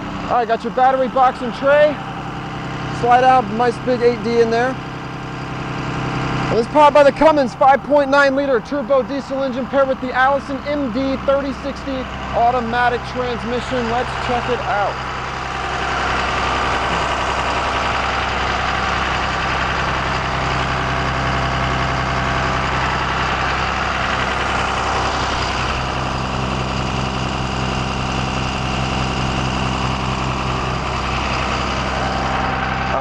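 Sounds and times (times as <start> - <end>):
diesel bus engine idling: 0.0 - 33.0.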